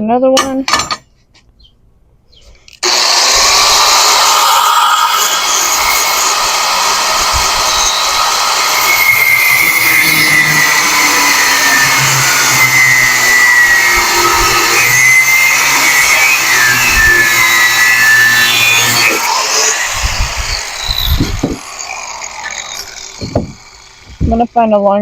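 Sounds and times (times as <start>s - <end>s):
angle grinder cutting steel: 2.8s - 24.9s.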